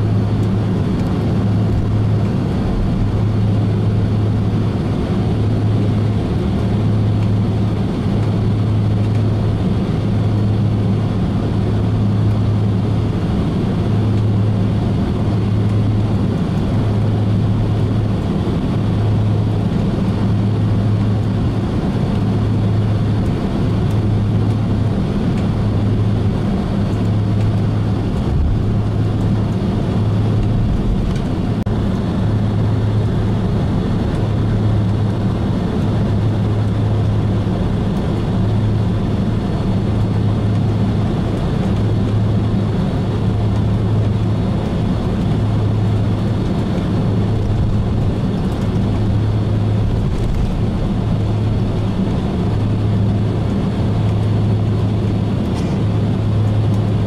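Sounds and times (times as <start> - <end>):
jet cabin engine noise: 0.0 - 57.0.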